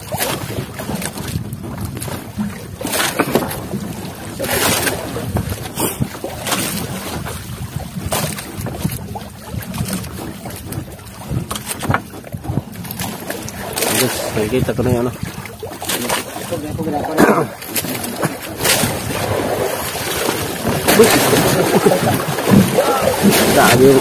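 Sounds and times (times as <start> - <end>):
water slapping against boat: 0.0 - 24.0
wind buffeting microphone: 0.0 - 24.0.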